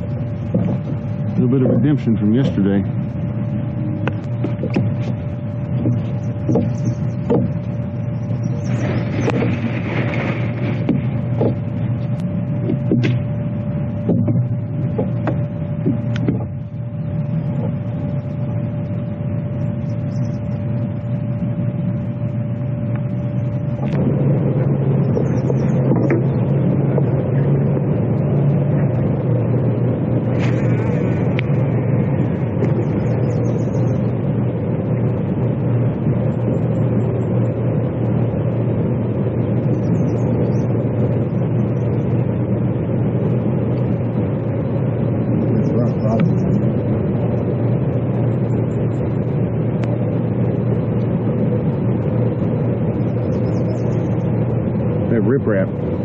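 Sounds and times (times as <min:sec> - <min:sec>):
motor humming: 0:00.0 - 0:56.0.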